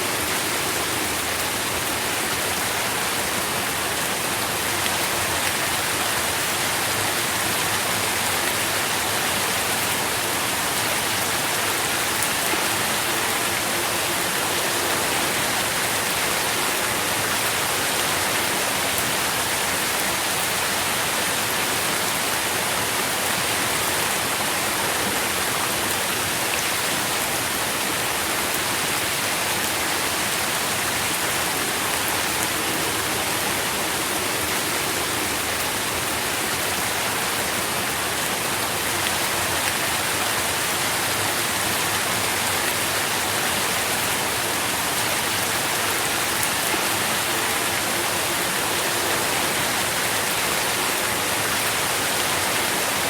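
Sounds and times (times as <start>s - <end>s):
steady rain pattering: 0.0s - 53.0s.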